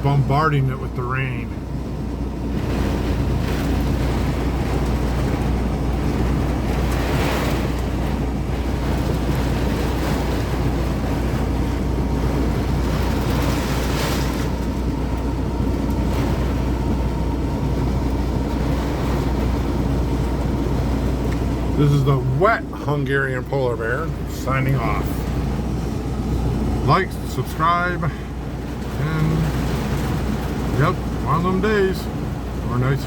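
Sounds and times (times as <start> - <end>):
heavy rain on truck cab: 0.0 - 33.0
steady low hum: 0.0 - 33.0.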